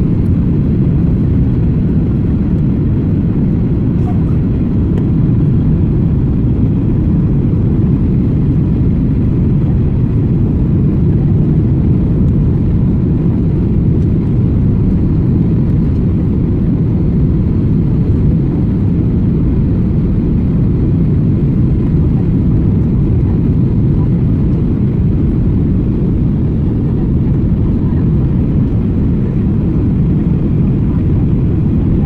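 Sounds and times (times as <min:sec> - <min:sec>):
airliner cabin engine rumble: 0:00.0 - 0:32.0.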